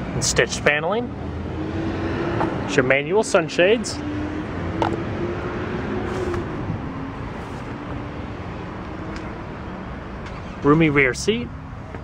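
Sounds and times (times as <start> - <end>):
vehicle noise: 0.0 - 12.0.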